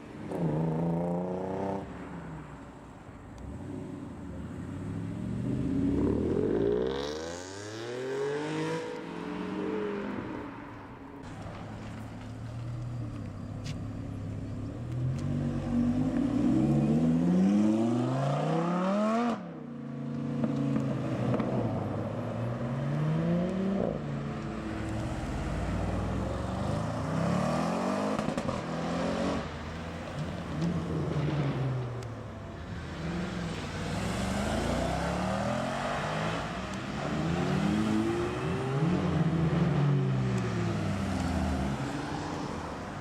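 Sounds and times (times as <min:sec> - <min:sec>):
car engines revving away: 0:00.1 - 0:02.1, 0:03.4 - 0:10.7, 0:13.8 - 0:43.0.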